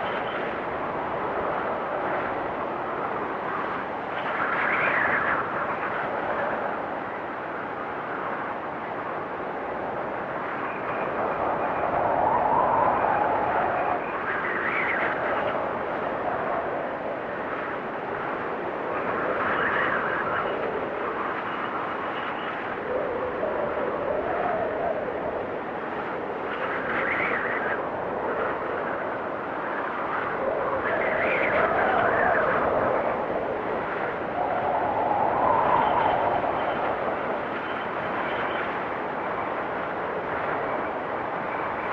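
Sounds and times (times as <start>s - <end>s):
blizzard wind gusting: 0.0s - 41.9s
faint wind whistle: 0.0s - 41.9s.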